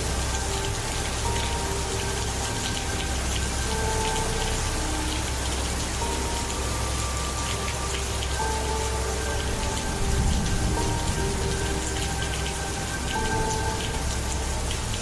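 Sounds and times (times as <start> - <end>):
soft held music notes: 0.0 - 15.0
steady rain falling: 0.0 - 15.0.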